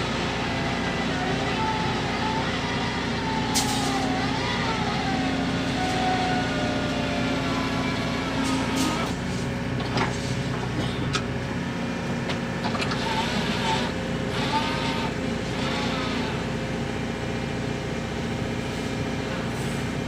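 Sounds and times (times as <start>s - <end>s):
excavator diesel engine running: 0.0s - 20.0s
held whine: 0.0s - 20.0s.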